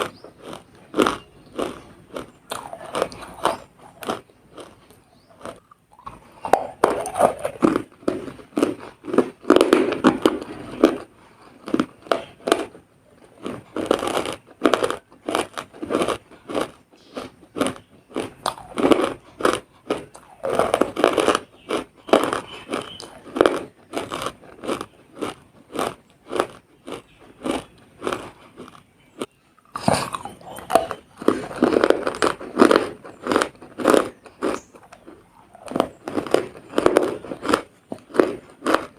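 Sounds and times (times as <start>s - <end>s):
chewing crisp crunches: 0.0s - 38.9s.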